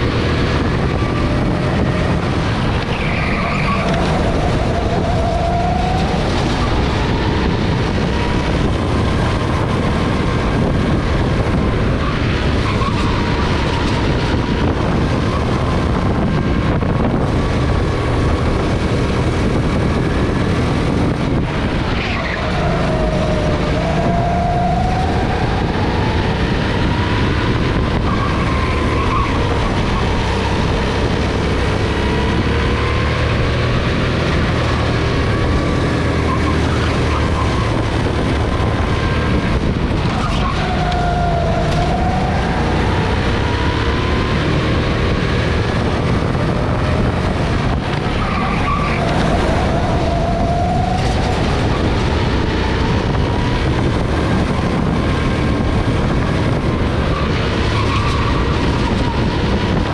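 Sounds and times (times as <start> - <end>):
go-kart engine revving: 0.0 - 59.9
steady rushing noise: 0.0 - 59.9.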